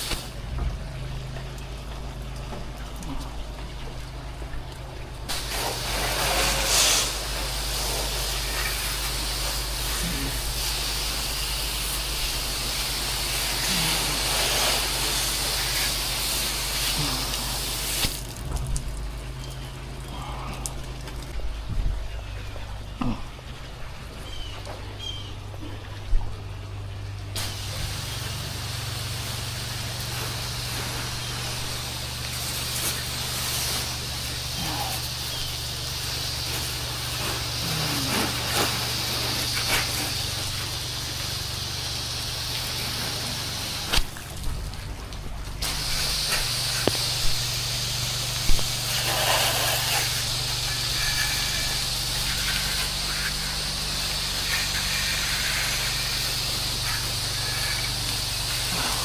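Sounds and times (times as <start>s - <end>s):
water spray hissing: 0.0s - 1.7s, 5.3s - 21.3s, 27.4s - 59.0s
pressure washer engine humming: 0.0s - 59.0s.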